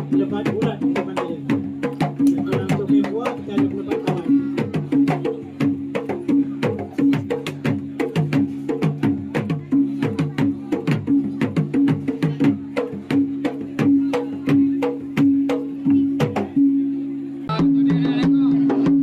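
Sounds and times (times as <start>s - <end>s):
hand drum strokes: 0.0s - 19.0s.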